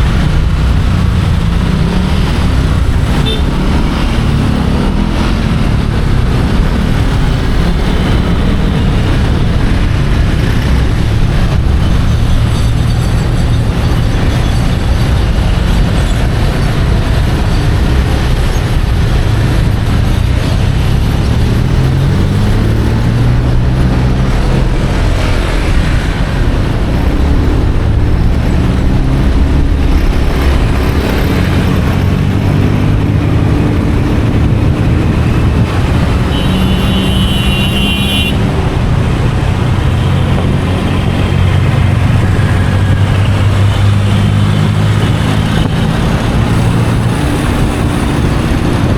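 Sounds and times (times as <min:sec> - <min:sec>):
city traffic: 0:00.0 - 0:48.9
motorcycle engine revving: 0:00.0 - 0:48.9.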